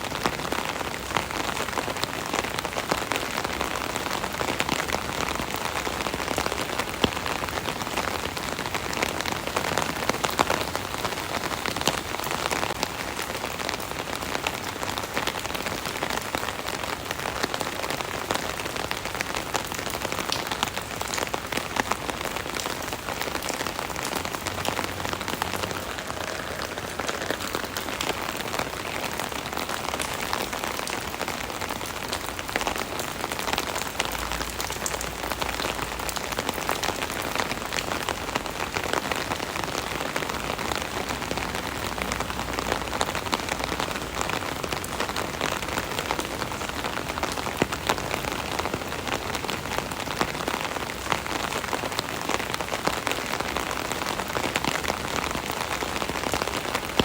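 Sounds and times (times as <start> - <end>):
rain pattering on an umbrella: 0.0 - 57.0.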